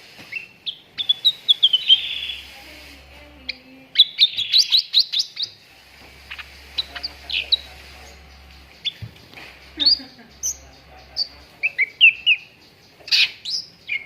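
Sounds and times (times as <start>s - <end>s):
songbird chirping: 0.1s - 14.0s.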